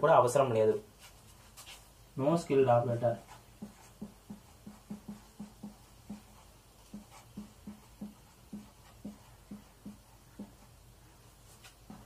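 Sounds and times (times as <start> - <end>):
marker pen on whiteboard: 0.7 - 12.0.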